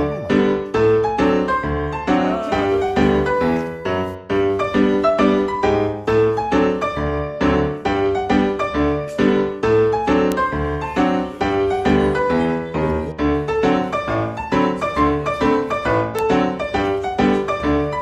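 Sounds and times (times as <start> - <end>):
piano piece: 0.0 - 18.0.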